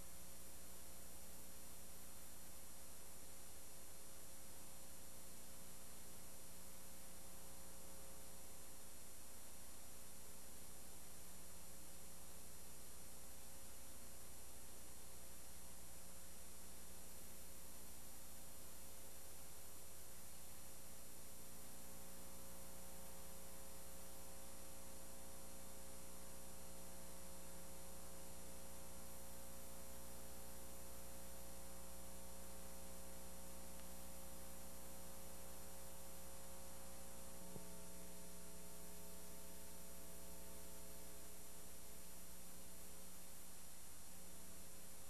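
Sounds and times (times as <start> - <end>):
electrical hum with hiss: 0.0 - 45.0.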